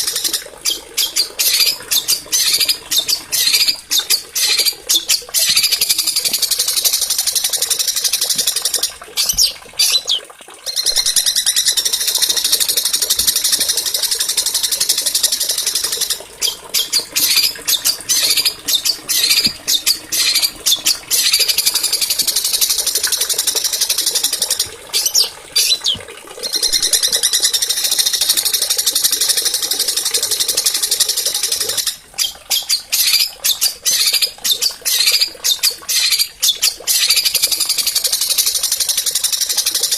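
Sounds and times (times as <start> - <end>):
songbird rattling trills: 0.0 - 39.8.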